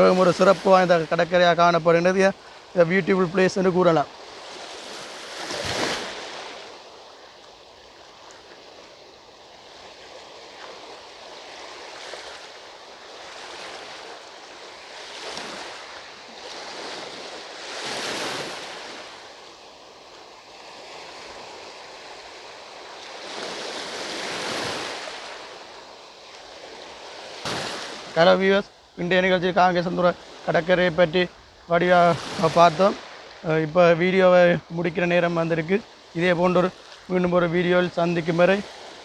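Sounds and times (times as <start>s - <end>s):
sea waves breaking on shore: 0.0s - 39.0s.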